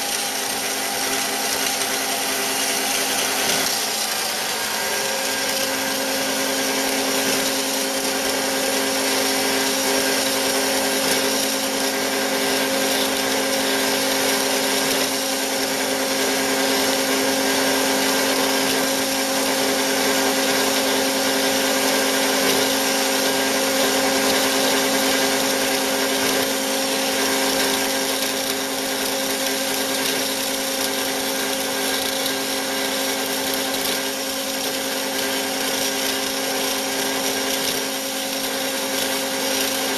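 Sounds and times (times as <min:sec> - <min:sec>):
bandsaw cutting with steady hum: 0:00.0 - 0:39.9.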